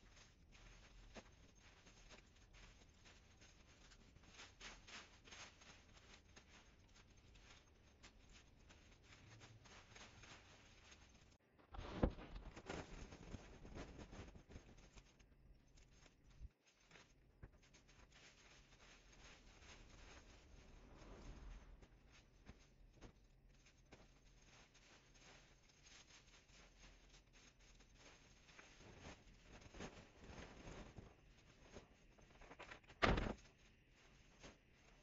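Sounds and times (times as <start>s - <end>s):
branches and leaves rustling: 0.0s - 15.2s, 15.8s - 35.0s.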